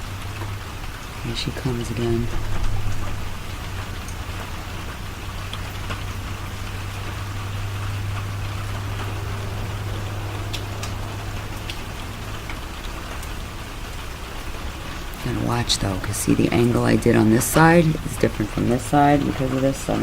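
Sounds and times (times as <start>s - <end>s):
low hum: 0.0s - 20.0s
steady rain: 0.0s - 20.0s.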